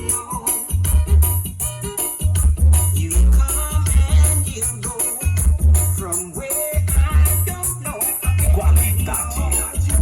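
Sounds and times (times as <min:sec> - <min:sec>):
reggae music: 0:00.0 - 0:10.0.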